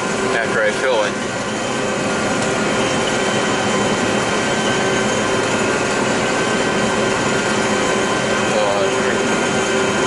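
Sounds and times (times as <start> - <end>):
combine harvester running: 0.0 - 10.0.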